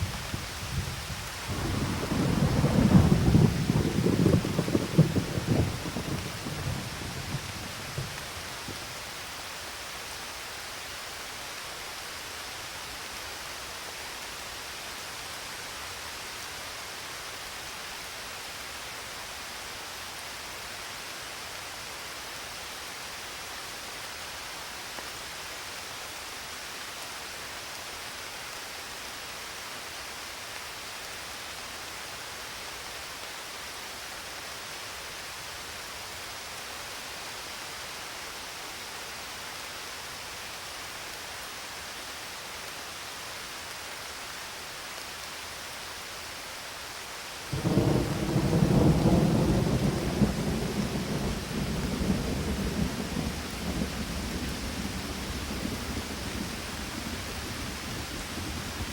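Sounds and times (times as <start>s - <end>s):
rain hissing: 0.0s - 58.9s.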